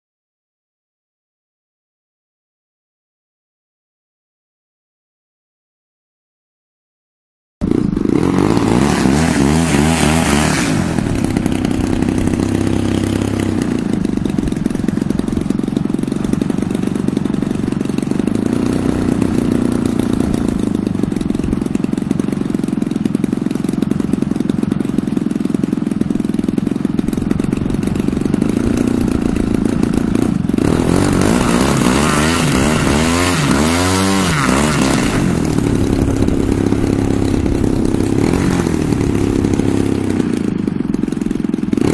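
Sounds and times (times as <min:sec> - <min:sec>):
model plane engine running: 0:07.6 - 0:41.9.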